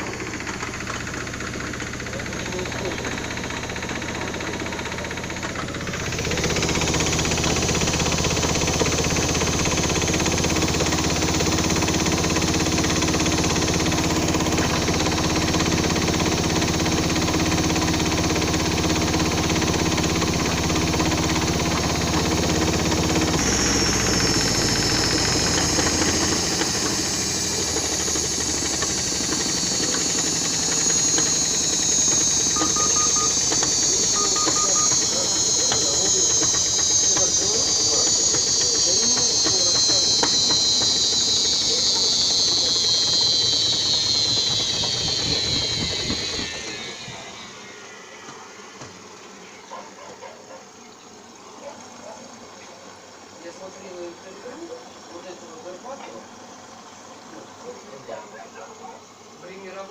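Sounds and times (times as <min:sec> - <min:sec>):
high whine: 0:00.0 - 0:50.2
washing machine spinning hum: 0:00.0 - 0:59.9.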